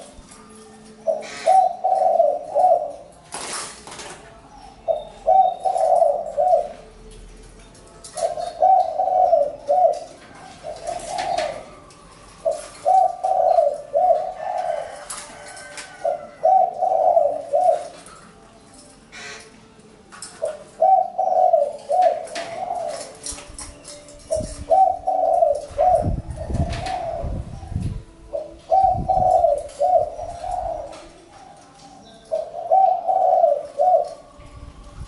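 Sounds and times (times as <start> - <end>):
dove cooing: 0.0 - 3.2, 4.4 - 7.2, 8.0 - 19.6, 20.2 - 34.4.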